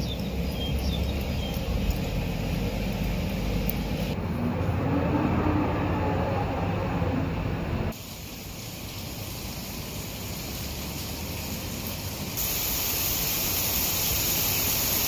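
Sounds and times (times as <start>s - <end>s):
heavy rain hissing: 0.0s - 15.0s
street traffic rumble: 0.0s - 15.0s.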